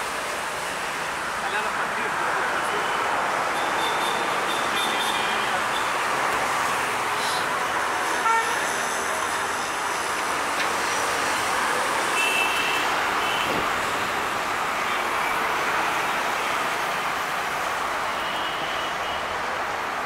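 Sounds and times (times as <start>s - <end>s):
busy road traffic: 0.0s - 20.0s.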